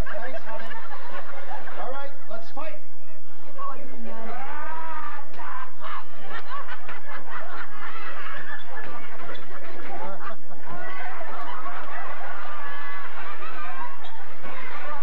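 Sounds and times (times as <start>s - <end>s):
audience laughing: 0.0s - 2.3s, 5.0s - 15.0s
audience chattering: 0.0s - 15.0s.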